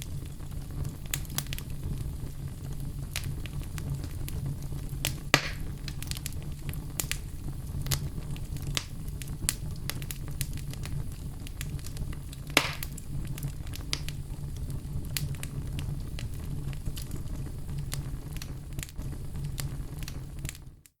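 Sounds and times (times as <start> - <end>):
wood fire crackling: 0.0 - 20.9.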